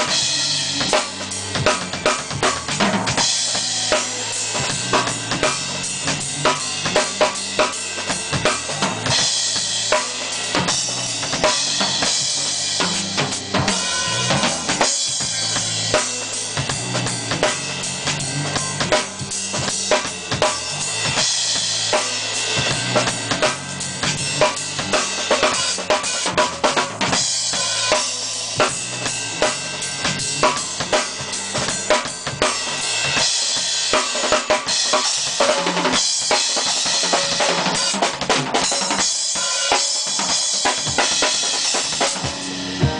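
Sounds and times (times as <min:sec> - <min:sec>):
drum kit played fast: 0:00.0 - 0:42.9.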